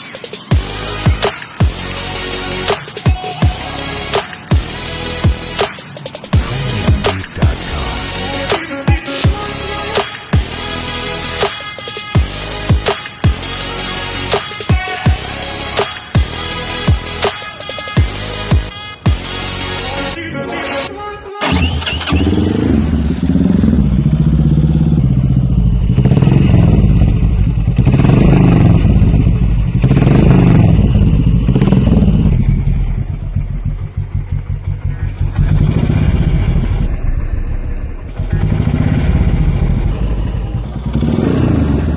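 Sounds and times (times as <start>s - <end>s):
motorcycle engine revving: 3.5s - 17.2s, 21.4s - 41.9s.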